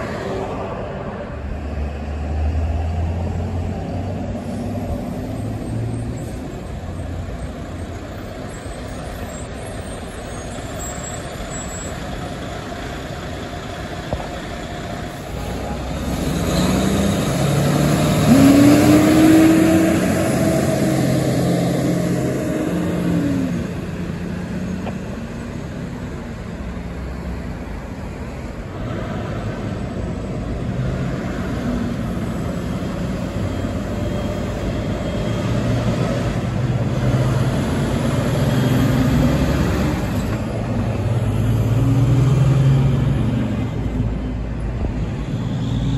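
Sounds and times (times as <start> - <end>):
cars and diesel trucks passing: 0.0 - 45.9
tanker truck diesel engine passing: 0.0 - 45.9.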